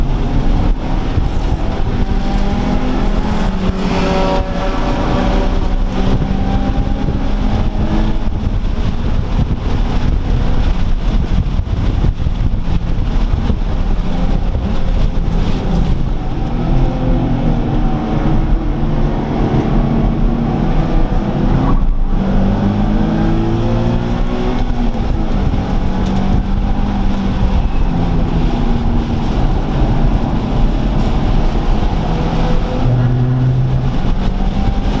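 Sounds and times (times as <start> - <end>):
car engines accelerating and passing: 0.0 - 35.0
low rumble: 0.0 - 35.0.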